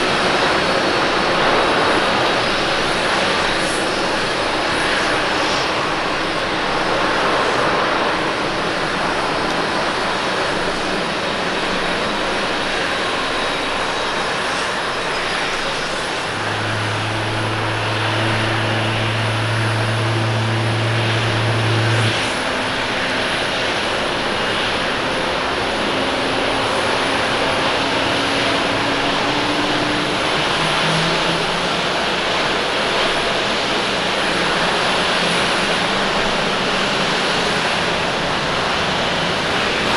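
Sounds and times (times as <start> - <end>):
jet engines rushing: 0.0 - 39.9.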